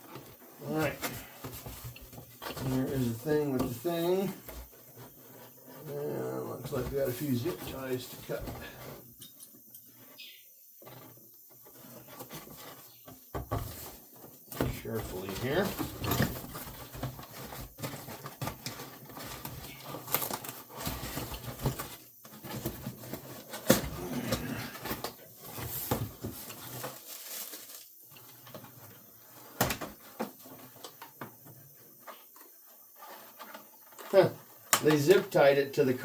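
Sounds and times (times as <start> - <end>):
cardboard and plastic rustling: 0.0 - 9.2, 10.0 - 36.0.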